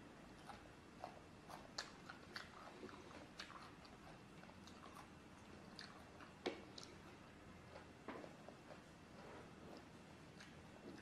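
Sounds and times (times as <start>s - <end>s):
cucumber being chewed: 0.3s - 11.0s.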